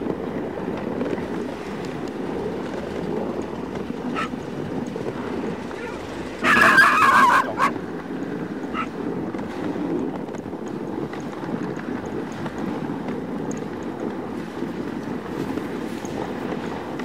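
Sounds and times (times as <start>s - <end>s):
sled running over snow: 0.0s - 17.0s
wind on microphone: 0.0s - 17.0s.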